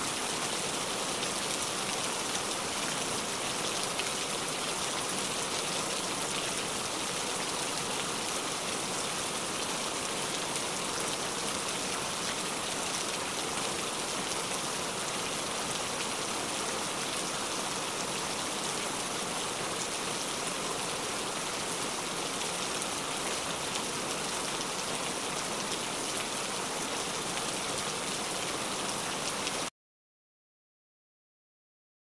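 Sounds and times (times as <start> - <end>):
steady rain hissing: 0.0 - 29.7.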